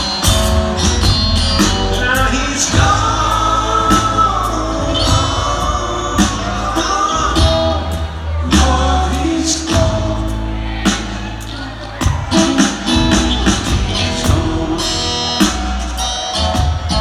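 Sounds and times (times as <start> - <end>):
drums: 0.0 - 17.0
upright bass: 0.0 - 17.0
man singing: 1.6 - 15.5.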